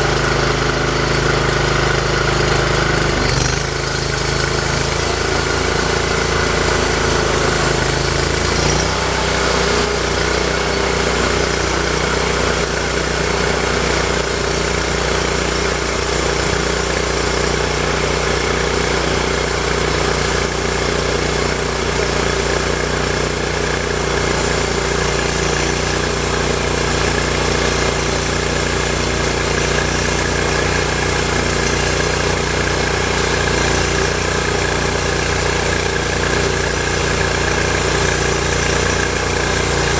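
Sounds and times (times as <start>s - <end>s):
gasoline engine running: 0.0s - 39.9s.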